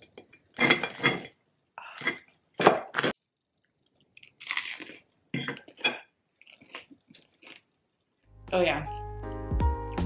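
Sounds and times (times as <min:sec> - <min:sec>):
toast crunching: 0:00.0 - 0:08.3.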